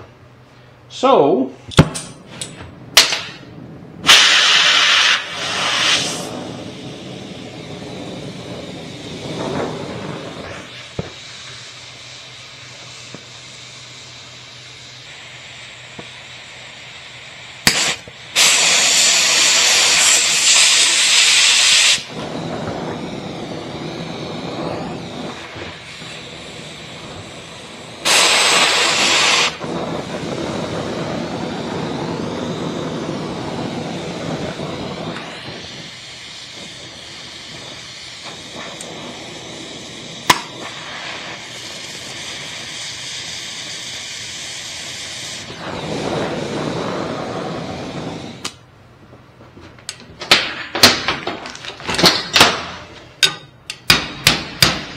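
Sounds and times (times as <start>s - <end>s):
cutting torch hissing: 2.0s - 50.0s.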